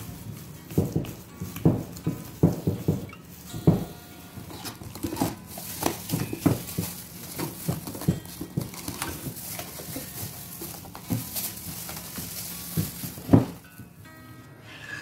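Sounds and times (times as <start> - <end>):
cling film crinkling: 0.0 - 14.1.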